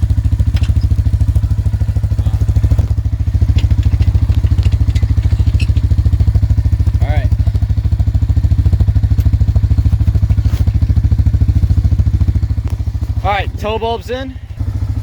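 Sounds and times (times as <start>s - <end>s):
quad bike engine idling: 0.0s - 15.0s.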